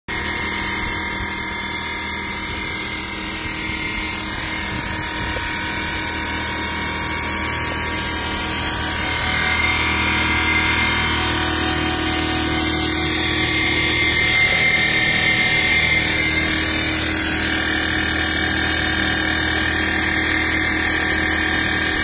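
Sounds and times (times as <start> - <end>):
stone-cutting saw whining: 0.1 - 22.0.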